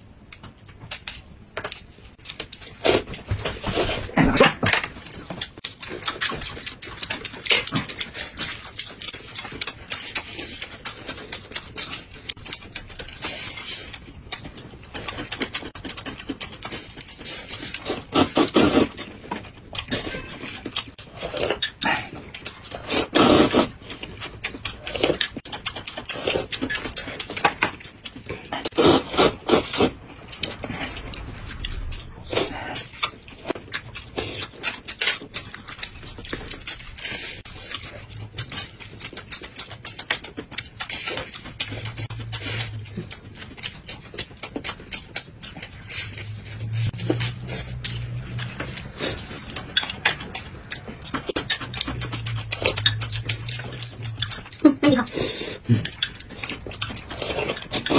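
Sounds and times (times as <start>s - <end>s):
people chewing and slurping: 0.0s - 57.9s.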